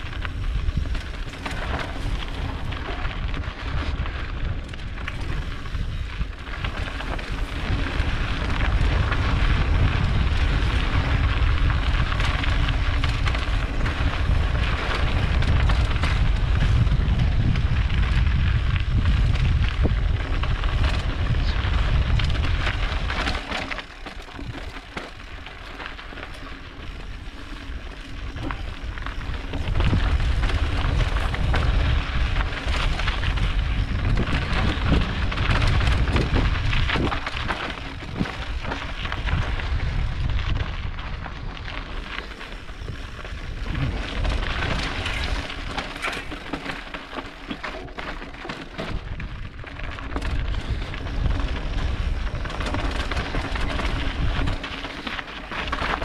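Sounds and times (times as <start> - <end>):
bike tyres rattling on gravel: 0.0 - 56.0
wind rumbling on microphone: 0.0 - 56.0.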